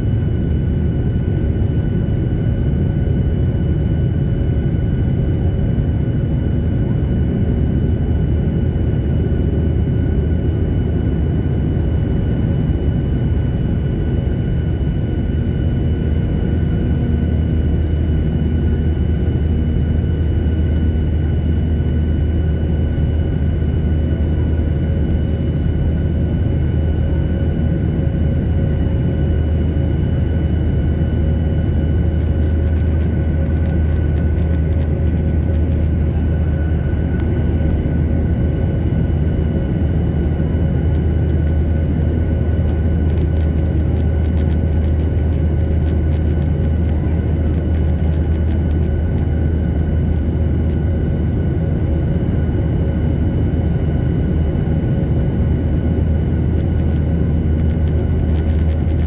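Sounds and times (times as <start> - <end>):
aircraft cabin low rumble: 0.0 - 59.0
jet engine high whine: 0.0 - 59.0.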